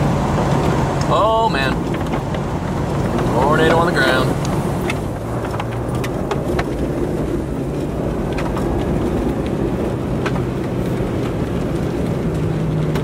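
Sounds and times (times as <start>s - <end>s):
vehicle engine rumbling: 0.0s - 13.0s
wind noise: 0.0s - 13.0s.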